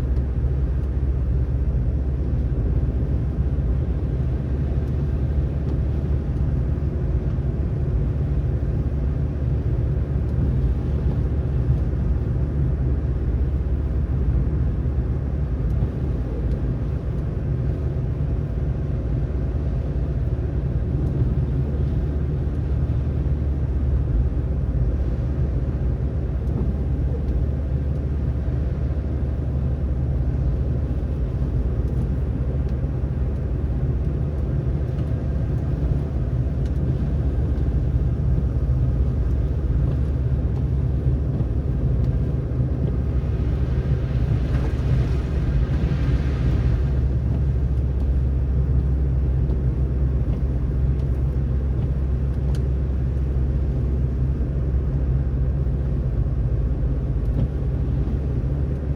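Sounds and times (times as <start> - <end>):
car driving on snowy roads: 0.0 - 58.9.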